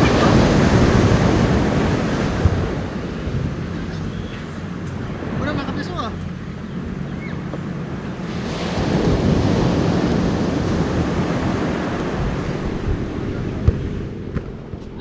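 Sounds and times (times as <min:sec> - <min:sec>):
wind on microphone: 0:00.0 - 0:05.7, 0:06.5 - 0:15.0
sea water rushing: 0:00.0 - 0:15.0.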